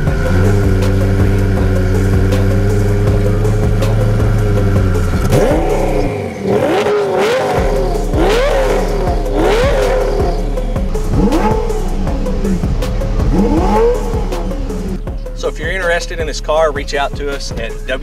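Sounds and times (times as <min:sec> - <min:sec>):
car engine revving: 0:00.0 - 0:17.9.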